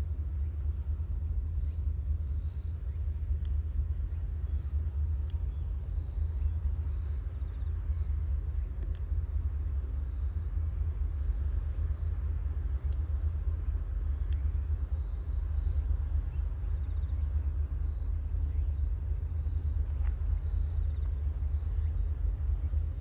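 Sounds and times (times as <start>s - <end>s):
insects chirping: 0.0s - 23.0s
wind rumble on microphone: 0.0s - 23.0s.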